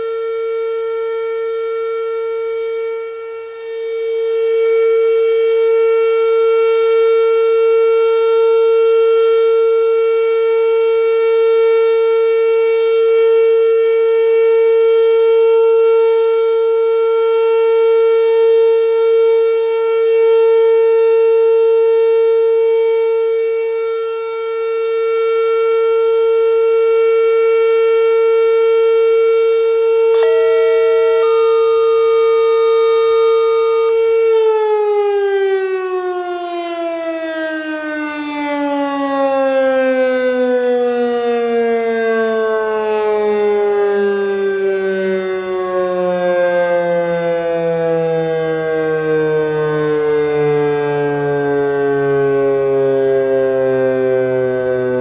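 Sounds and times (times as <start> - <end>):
warning siren alert tone: 0.0 - 55.0.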